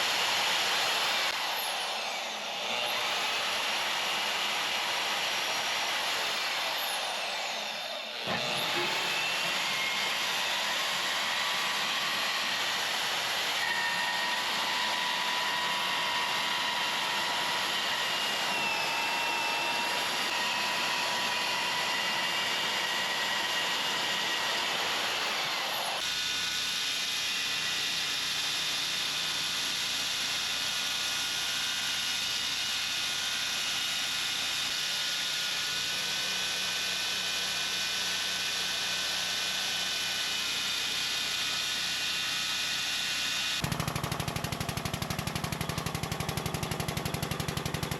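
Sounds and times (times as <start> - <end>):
power tool high whine: 0.0 - 47.9.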